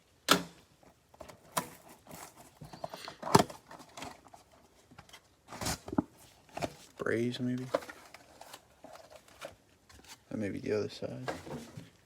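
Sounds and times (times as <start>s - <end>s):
cards and foil packs handled: 1.1s - 12.0s.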